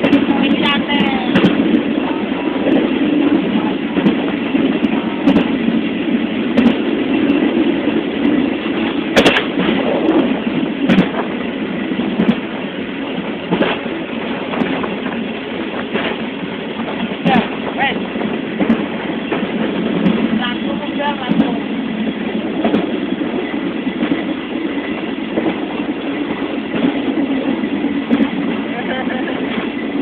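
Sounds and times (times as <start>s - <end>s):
train wagon rumbling clatter: 0.0s - 30.0s.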